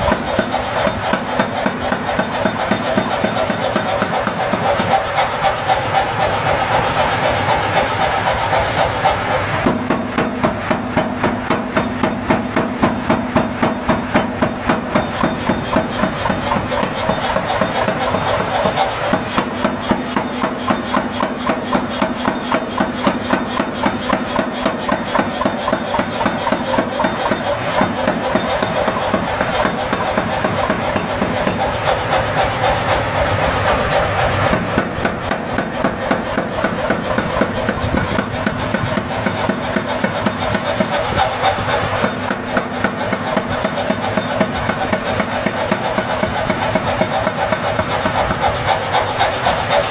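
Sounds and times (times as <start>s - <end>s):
hammer blows on hot iron: 0.0s - 49.9s.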